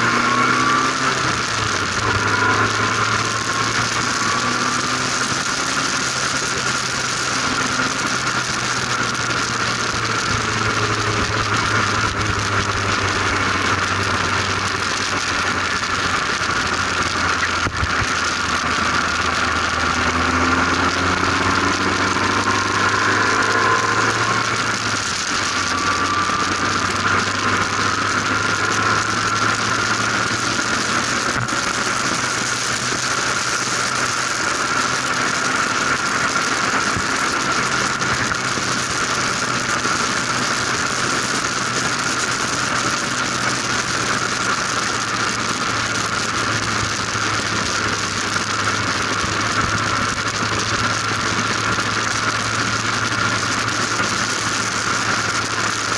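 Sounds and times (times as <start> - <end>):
race car engine: 0.0 - 55.9.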